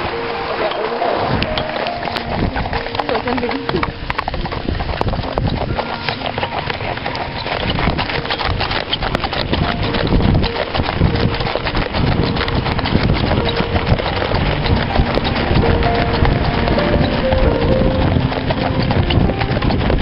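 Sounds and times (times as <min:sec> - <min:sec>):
crunching across snow: 0:00.0 - 0:20.0
hooves clopping on snow: 0:00.0 - 0:20.0.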